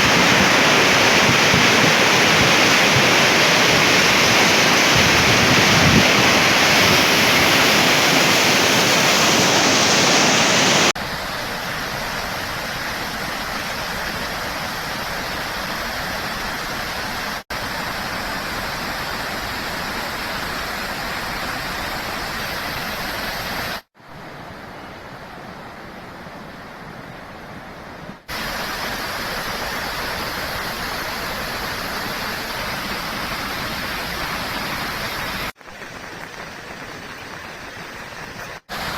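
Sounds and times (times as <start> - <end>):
mountain stream rushing: 0.0 - 38.9.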